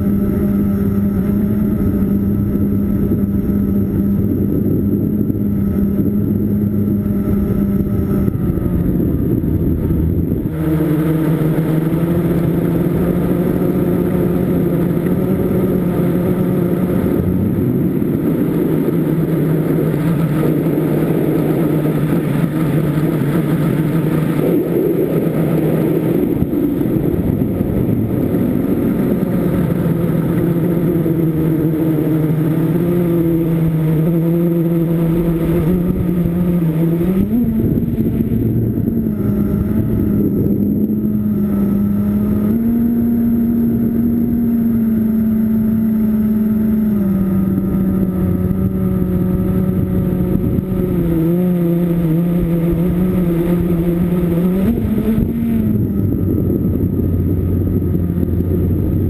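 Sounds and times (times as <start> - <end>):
quadcopter motors humming: 0.0 - 59.0.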